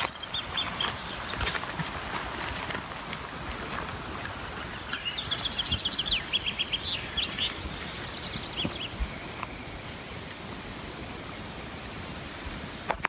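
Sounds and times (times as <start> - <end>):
songbird singing: 0.0 - 12.5
steady outdoor hiss: 0.0 - 13.0.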